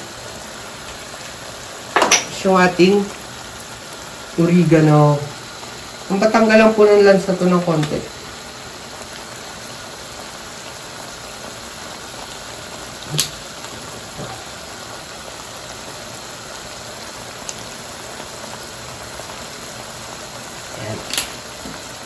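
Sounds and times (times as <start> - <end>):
bubbling sizzle in pan: 0.0 - 22.0.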